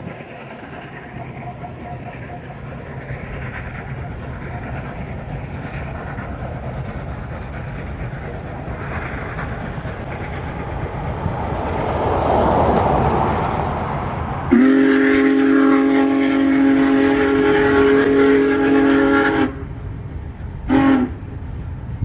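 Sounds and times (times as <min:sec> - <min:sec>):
steam locomotive rushing: 0:00.0 - 0:22.0.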